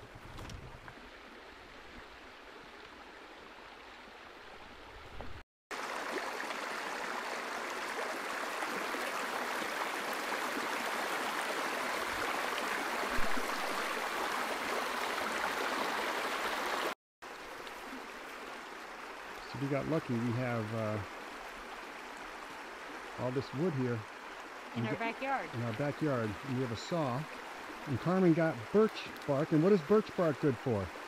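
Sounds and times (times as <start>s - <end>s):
stream water over stones: 0.0s - 31.0s.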